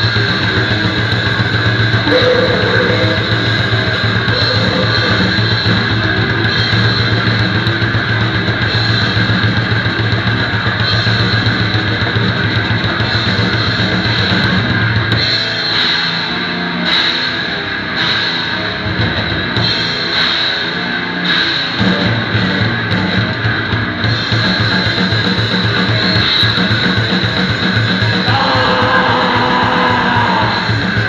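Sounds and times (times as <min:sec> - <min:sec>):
distorted electric guitar: 0:00.0 - 0:31.0
drum kit: 0:00.0 - 0:31.0.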